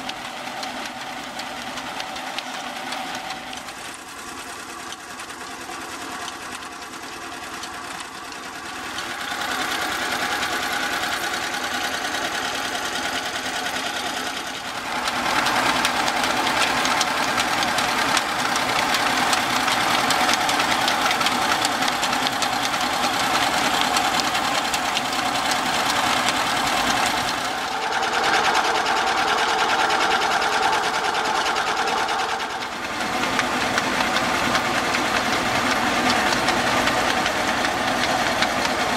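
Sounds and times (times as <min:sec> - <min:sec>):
belt-driven water pump clattering: 0:00.0 - 0:38.9.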